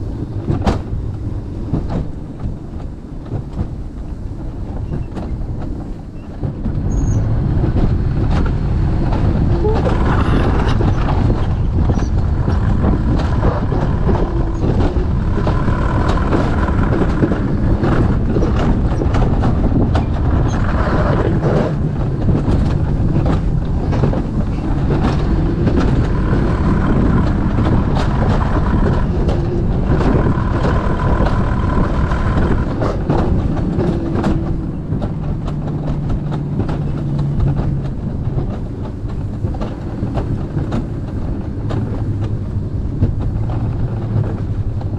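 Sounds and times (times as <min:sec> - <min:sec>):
coaster sled rattling on metal rail: 0:00.0 - 0:44.9.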